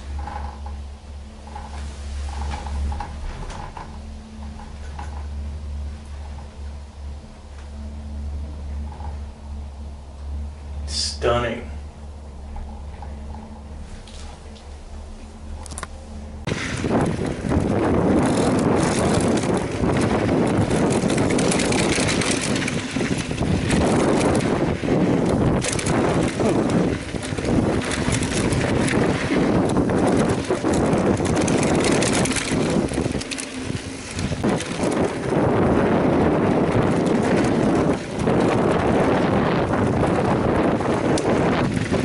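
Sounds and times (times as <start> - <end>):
bike rattling over rough ground: 0.0 - 11.6, 12.3 - 42.0
wind on microphone: 0.0 - 42.0.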